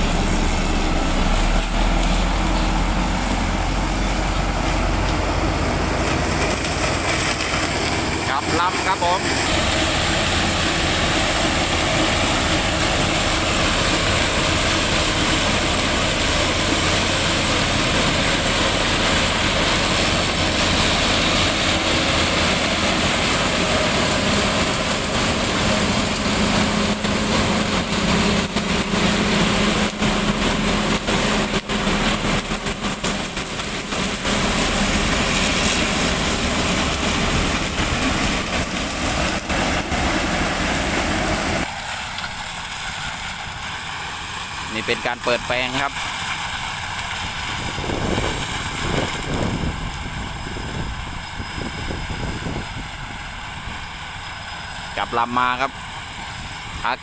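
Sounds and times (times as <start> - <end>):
harvester diesel engine running: 0.0 - 57.0.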